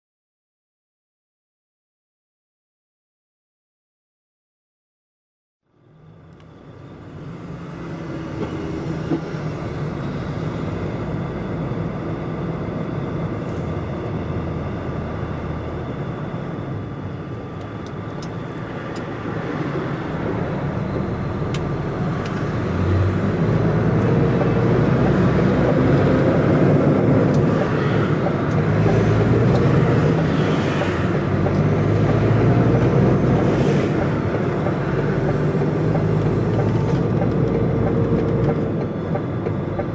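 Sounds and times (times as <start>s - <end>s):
truck diesel engine running: 6.2s - 39.9s.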